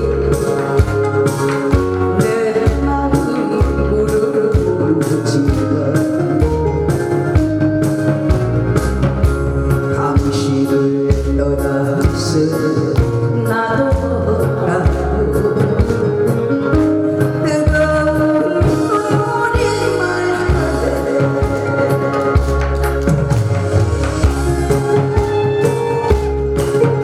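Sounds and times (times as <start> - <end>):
song over loudspeakers: 0.0 - 27.0
steady drum beat: 0.0 - 27.0.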